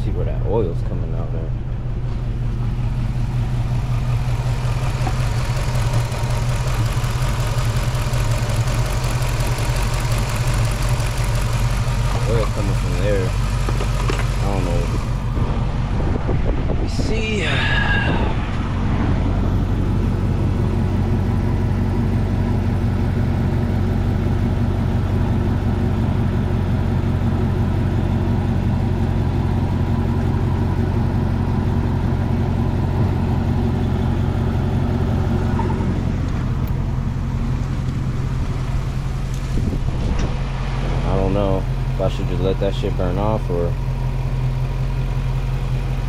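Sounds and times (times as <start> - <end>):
car engine idling with misfire: 0.0 - 46.0.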